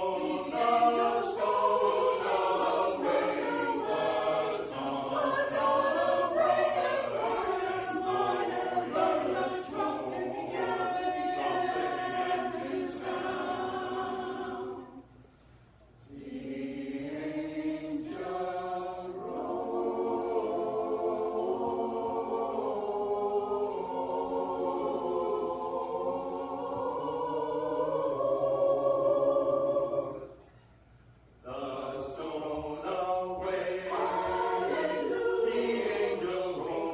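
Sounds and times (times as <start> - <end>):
choir singing held chords: 0.0 - 15.3, 16.0 - 30.6, 31.2 - 36.9.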